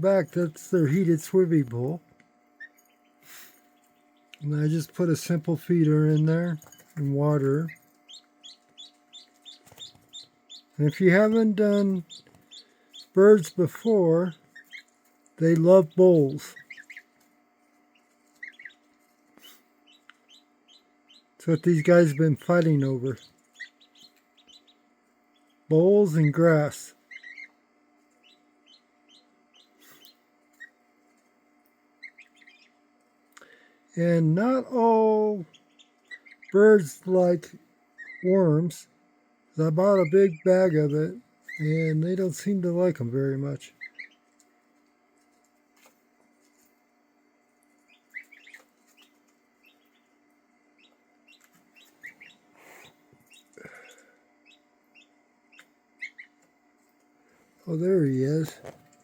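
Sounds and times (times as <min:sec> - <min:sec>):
ducklings peeping: 0:00.0 - 0:38.9, 0:39.6 - 0:46.7, 0:47.6 - 0:59.0
steady low hum: 0:00.0 - 0:59.0.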